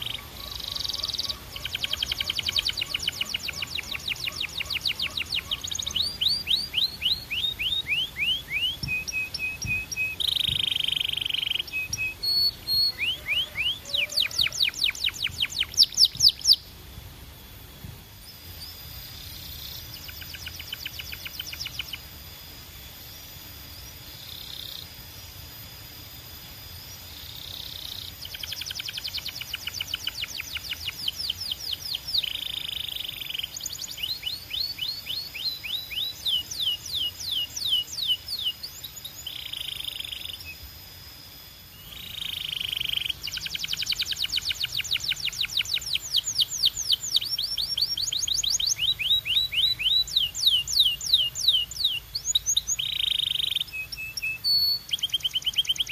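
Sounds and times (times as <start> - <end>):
canary singing trills: 0.0 - 16.8, 18.2 - 25.4, 26.7 - 41.0, 41.6 - 55.9.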